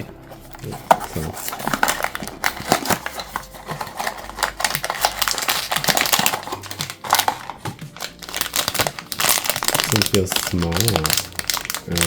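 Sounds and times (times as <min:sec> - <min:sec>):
cardboard packaging clicks and crinkles: 0:00.0 - 0:12.0.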